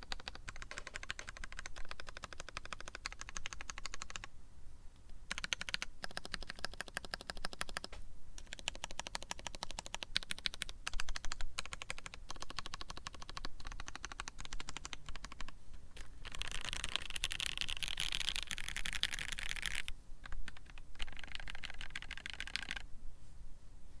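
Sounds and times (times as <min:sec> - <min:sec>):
mechanical keyboard typing: 0:00.0 - 0:04.3, 0:05.3 - 0:22.8.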